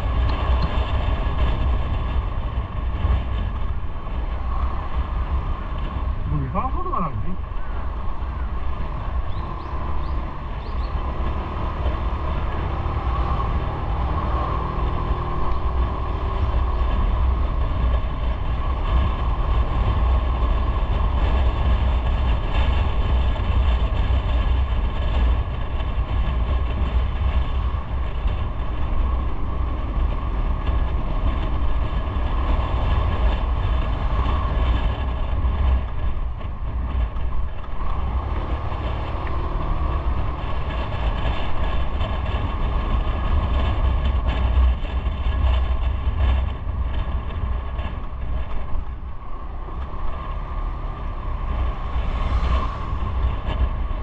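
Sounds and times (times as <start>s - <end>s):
motorcycle running: 0.0s - 54.0s
wind on microphone: 0.0s - 54.0s.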